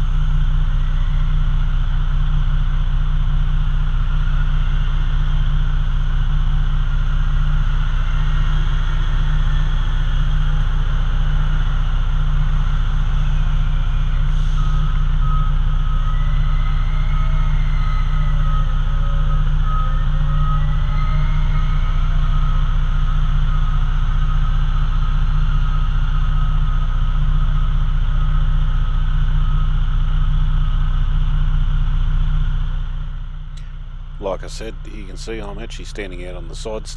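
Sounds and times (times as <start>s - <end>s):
steady high-pitched tone: 0.0s - 31.6s, 32.6s - 36.9s
truck engine running: 0.0s - 36.9s.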